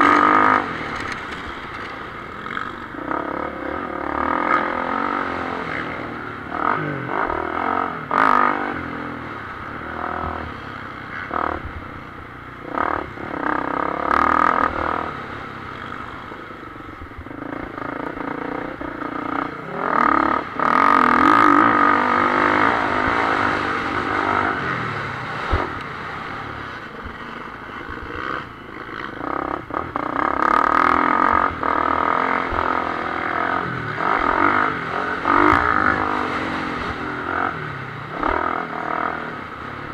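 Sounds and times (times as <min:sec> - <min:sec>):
dirt bike engine revving: 0:00.0 - 0:11.9, 0:12.6 - 0:39.9.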